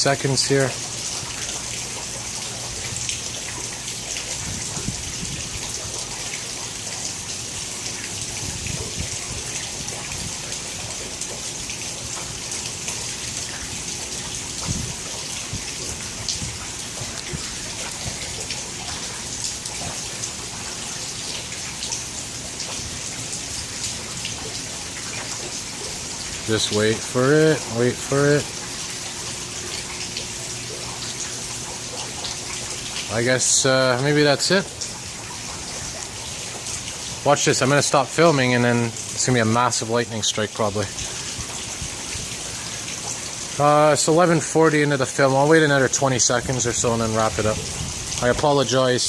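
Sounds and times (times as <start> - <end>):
rain falling and splashing: 0.0 - 49.0.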